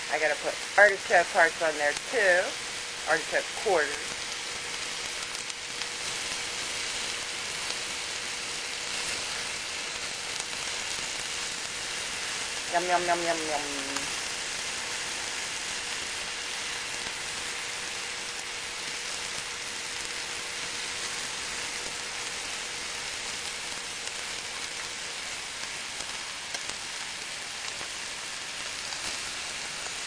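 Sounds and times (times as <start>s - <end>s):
meat sizzling on a grill: 0.0s - 30.0s.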